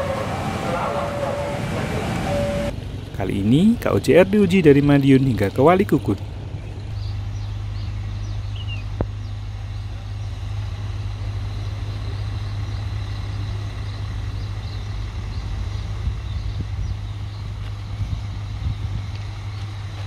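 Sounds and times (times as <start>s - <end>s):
diesel railcar engine humming: 0.0s - 20.0s.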